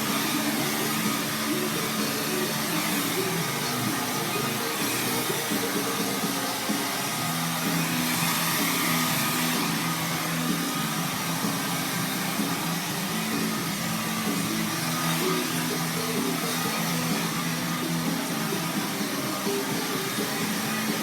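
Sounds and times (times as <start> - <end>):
hair dryer blowing: 0.0 - 21.0
music playing: 0.0 - 21.0.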